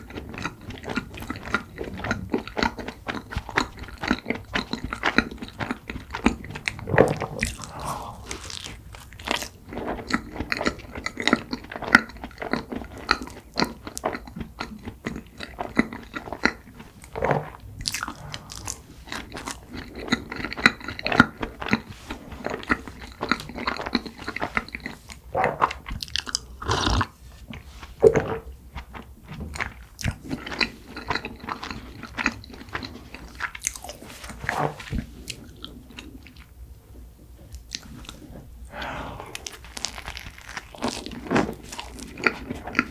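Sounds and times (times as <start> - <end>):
biting and chewing buns: 0.0 - 36.6, 37.5 - 42.9.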